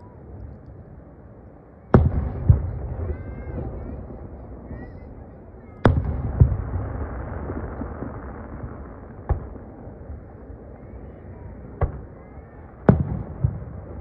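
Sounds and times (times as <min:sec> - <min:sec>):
rumble after firework bangs: 0:00.0 - 0:14.0.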